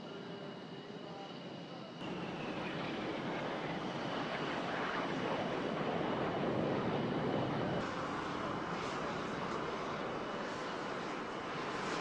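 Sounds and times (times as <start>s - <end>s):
jet aircraft flying past: 2.0s - 12.0s.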